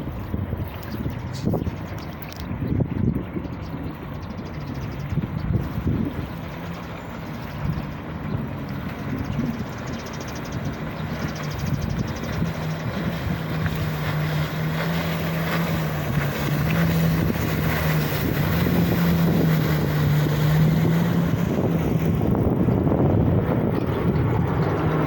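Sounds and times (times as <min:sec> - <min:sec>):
jet ski engine hum: 0:00.0 - 0:25.0
wind buffeting microphone: 0:00.0 - 0:25.0.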